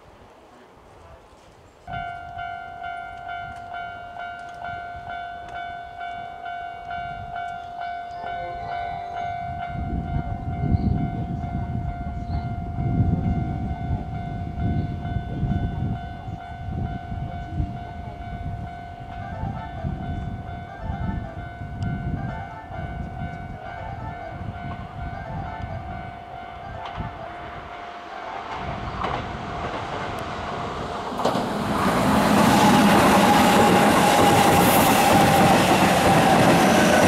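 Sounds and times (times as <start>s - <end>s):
passing train rumble and clatter: 1.8s - 37.0s.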